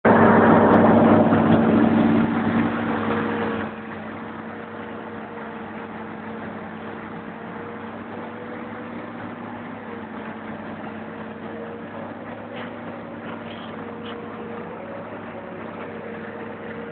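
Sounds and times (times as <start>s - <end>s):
diesel engine humming: 0.0s - 16.9s.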